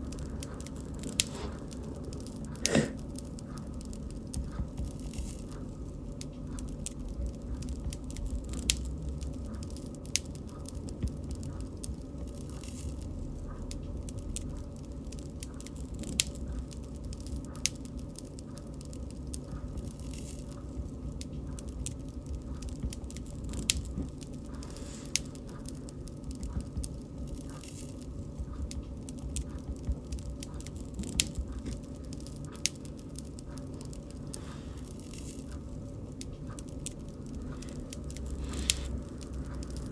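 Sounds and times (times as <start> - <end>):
bonfire crackling and popping: 0.0 - 39.9
low rumble of flame: 0.0 - 39.9.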